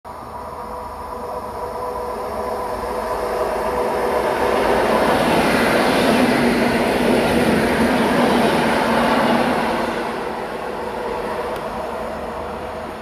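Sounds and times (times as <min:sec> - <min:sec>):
train hum: 0:00.1 - 0:13.0
train wheel and rail noise: 0:00.1 - 0:13.0.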